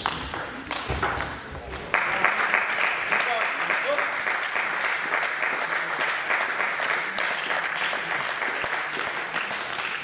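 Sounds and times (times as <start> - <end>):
spectators applauding: 1.9 - 10.0.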